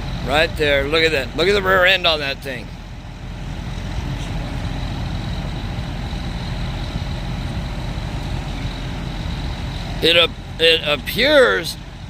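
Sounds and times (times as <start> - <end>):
heavy vehicle engine idling: 0.0 - 12.0.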